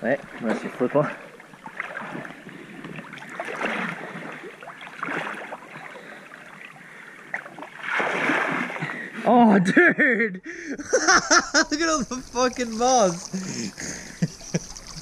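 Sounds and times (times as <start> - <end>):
person wading through water: 0.1 - 9.3, 10.7 - 15.0.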